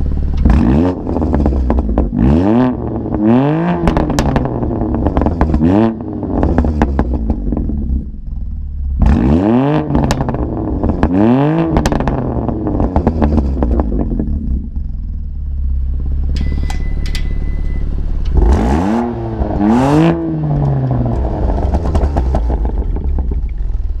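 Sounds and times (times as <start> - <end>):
exhaust crackles: 0.0 - 16.4, 17.0 - 24.0
car engine idling and revving: 0.0 - 24.0.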